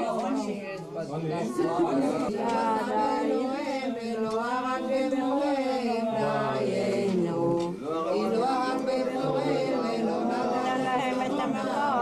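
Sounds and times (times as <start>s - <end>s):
people chanting a slow melody: 0.0s - 12.0s.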